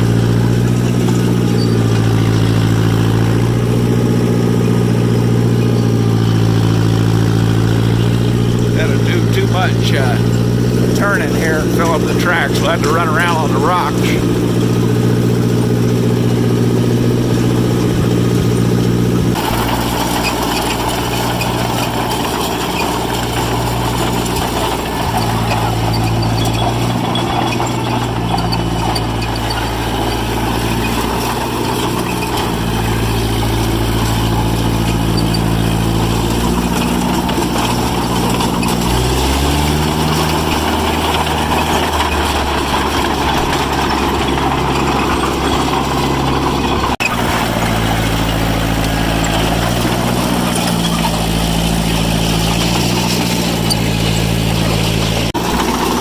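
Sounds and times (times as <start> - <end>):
crawler engine running: 0.0 - 56.0.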